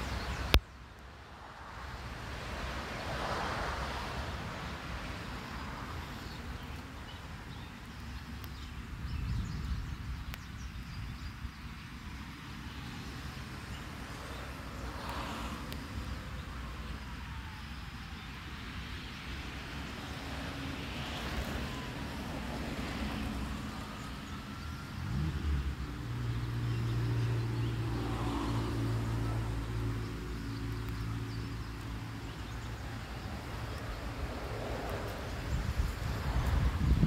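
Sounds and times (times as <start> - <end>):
light rain hiss: 0.0 - 9.0, 11.5 - 36.7.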